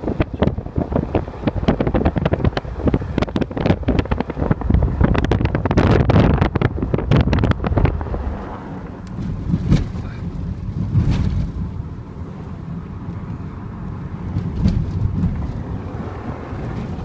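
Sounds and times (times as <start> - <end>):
car driving rumble: 0.0 - 17.0
wind buffeting microphone: 0.0 - 17.0.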